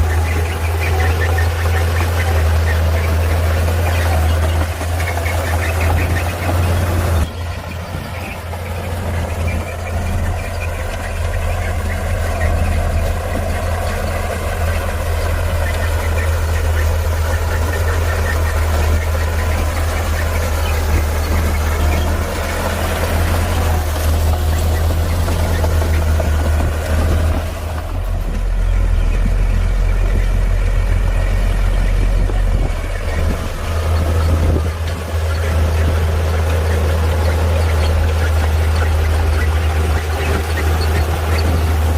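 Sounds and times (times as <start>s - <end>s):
diesel earthmoving machinery running: 0.0s - 41.9s.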